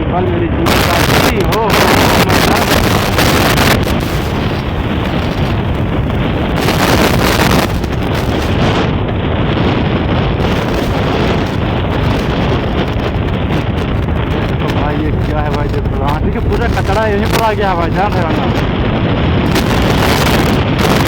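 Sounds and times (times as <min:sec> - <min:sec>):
motorcycle riding noise: 0:00.0 - 0:21.0
wind rush on microphone: 0:00.0 - 0:21.0.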